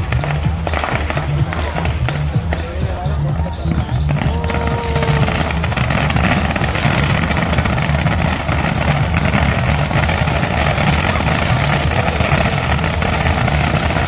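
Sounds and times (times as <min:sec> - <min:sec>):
firework crackling: 0:00.0 - 0:14.0
low rumble: 0:00.0 - 0:14.0.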